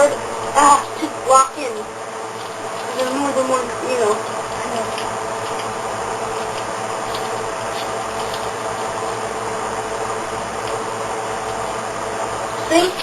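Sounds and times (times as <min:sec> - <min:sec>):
background hiss: 0:00.0 - 0:13.0
low hum: 0:00.0 - 0:13.0.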